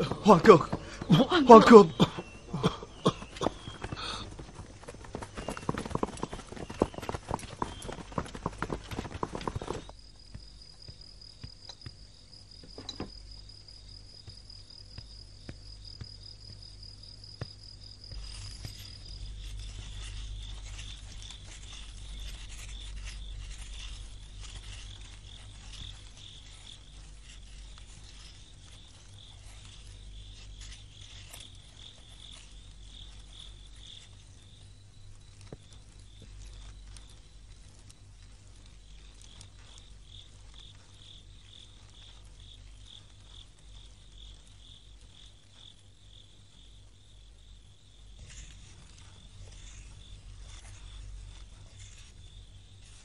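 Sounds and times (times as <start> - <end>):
crickets chirping: 0.0 - 53.0
low background hum: 0.0 - 53.0.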